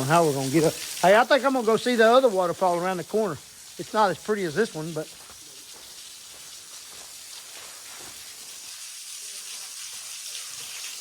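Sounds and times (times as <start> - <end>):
waterfall splashing: 0.0 - 11.0.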